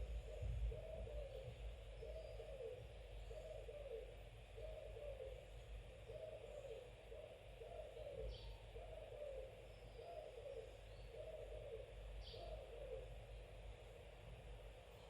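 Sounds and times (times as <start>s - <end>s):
bird hooting: 0.0s - 13.2s.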